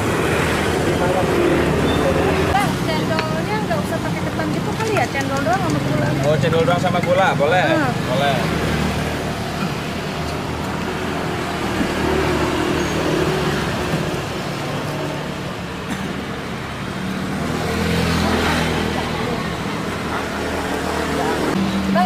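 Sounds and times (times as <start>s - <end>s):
vehicle engines running: 0.0s - 22.0s.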